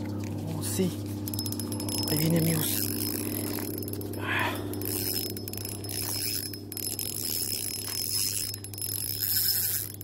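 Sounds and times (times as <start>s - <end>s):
fishing reel whirring and clicking: 1.0s - 10.0s.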